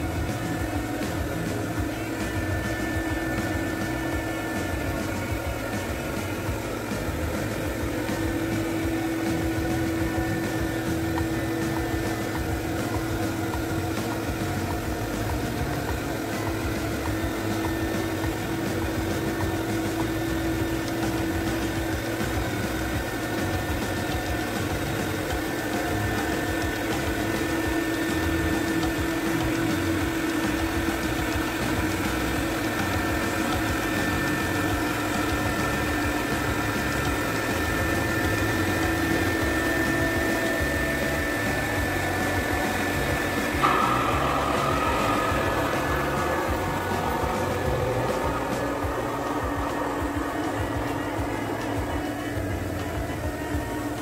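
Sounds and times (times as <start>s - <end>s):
carpet cleaning machine running: 0.0s - 54.0s.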